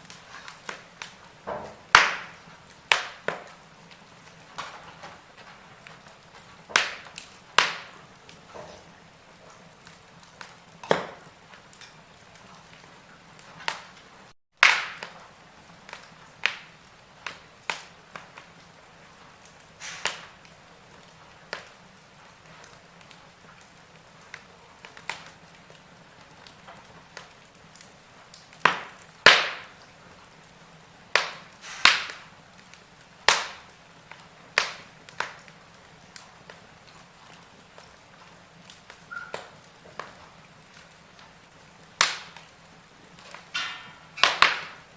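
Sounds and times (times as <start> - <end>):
faint steady hiss: 0.0 - 44.9
wood fire crackling: 0.0 - 44.9.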